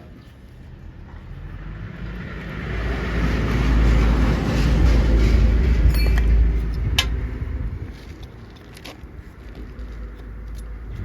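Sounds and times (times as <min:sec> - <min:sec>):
motor vehicle passing: 0:00.4 - 0:11.0.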